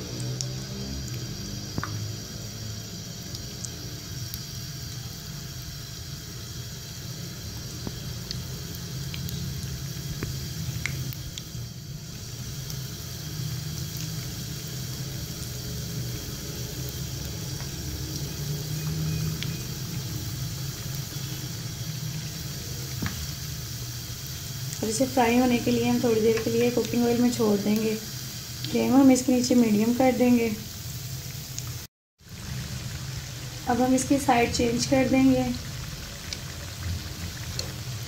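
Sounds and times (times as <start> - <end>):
low steady hum: 0.0 - 30.7
batter deep-frying in oil: 0.0 - 38.0.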